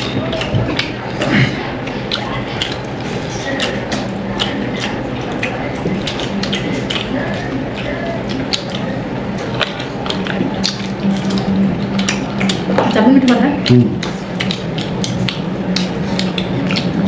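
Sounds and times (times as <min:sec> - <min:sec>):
people chewing and tearing meat: 0:00.0 - 0:17.0
steady low hum: 0:00.0 - 0:17.0.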